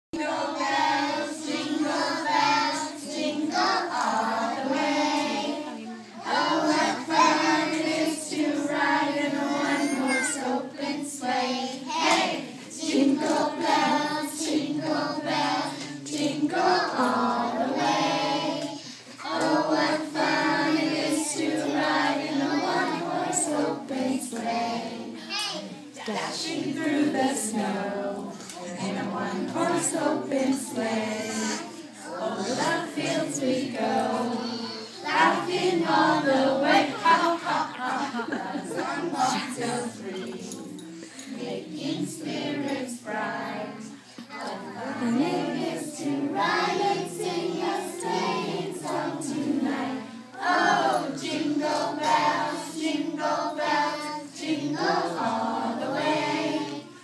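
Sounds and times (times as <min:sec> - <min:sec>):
children singing in chorus: 0:00.2 - 0:57.0.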